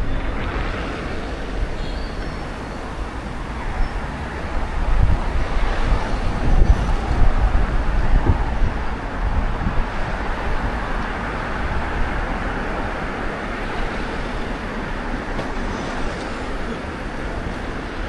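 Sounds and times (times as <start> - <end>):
passing traffic: 0.0 - 18.0
strong wind: 0.0 - 18.0.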